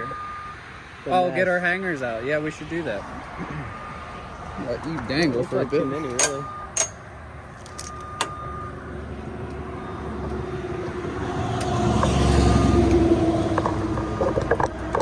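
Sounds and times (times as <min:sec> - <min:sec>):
vehicle engine and tyres: 0:00.0 - 0:15.0.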